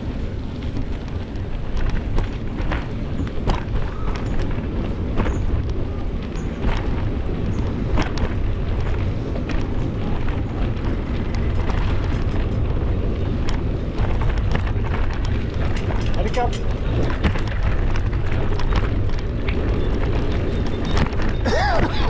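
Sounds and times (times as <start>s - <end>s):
bicycle clicks and rattles: 0.0s - 22.0s
wind buffeting microphone: 0.0s - 22.0s.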